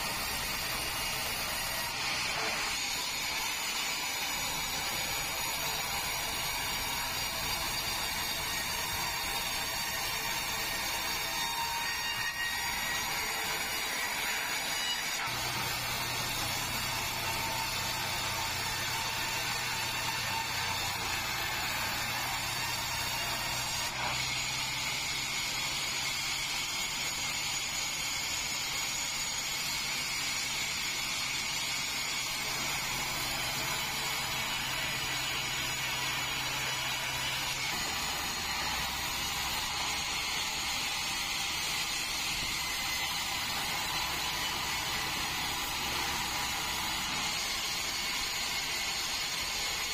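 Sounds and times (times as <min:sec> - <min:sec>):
band saw sawing a log: 0:00.0 - 0:49.9.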